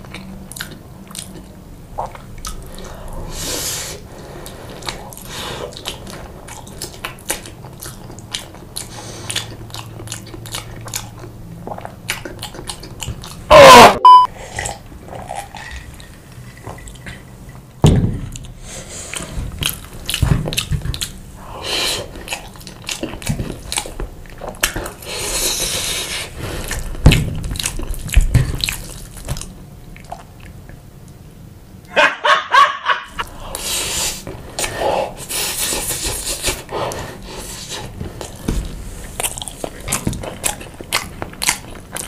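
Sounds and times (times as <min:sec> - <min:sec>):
wet chewing and mouth noises: 0:00.0 - 0:03.7, 0:04.4 - 0:13.9, 0:14.5 - 0:31.2, 0:33.1 - 0:42.0.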